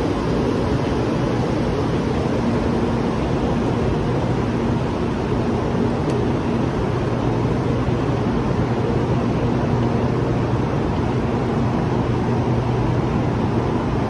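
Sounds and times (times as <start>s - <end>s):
idling train hum and air rush: 0.0s - 14.0s.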